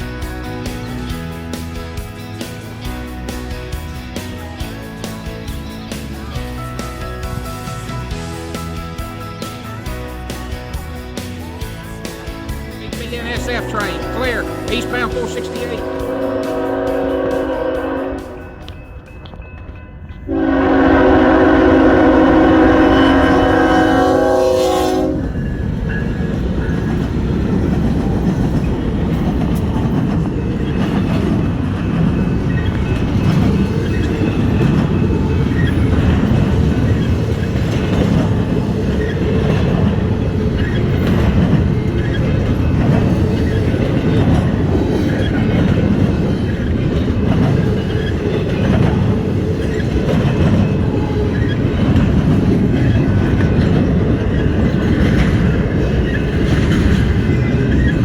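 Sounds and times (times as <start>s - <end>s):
wheel clatter: 0.0s - 20.2s, 22.2s - 58.0s
train cars rumbling over rails: 0.0s - 58.0s.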